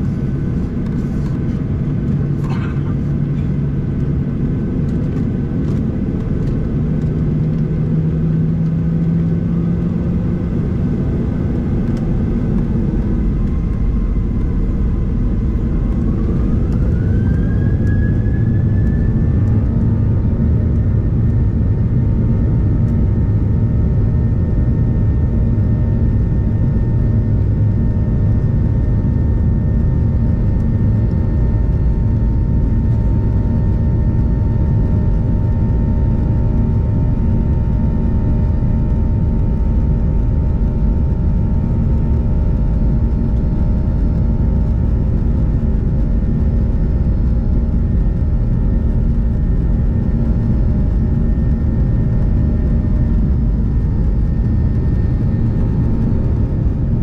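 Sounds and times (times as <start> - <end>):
jet engine rumble and hiss: 0.0 - 57.0
jet engine whine rising: 0.0 - 57.0.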